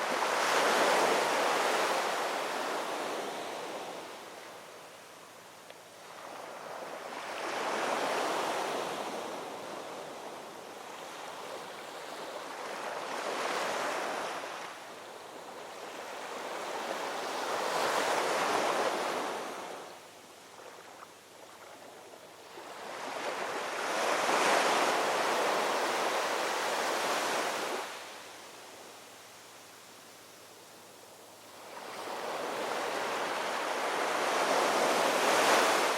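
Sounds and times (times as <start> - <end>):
ocean waves breaking on shore: 0.0 - 4.7, 6.0 - 28.9, 31.5 - 35.9.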